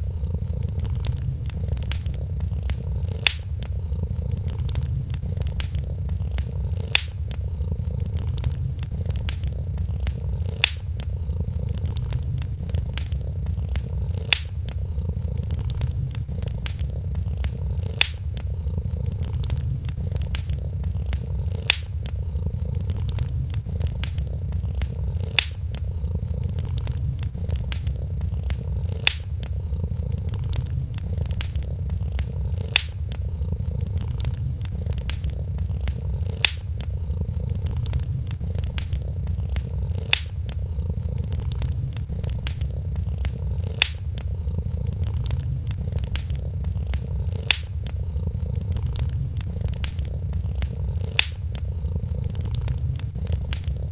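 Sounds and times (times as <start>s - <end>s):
cat purring: 0.0s - 53.9s
fire popping: 0.0s - 53.9s
wood fire crackling: 0.0s - 53.9s.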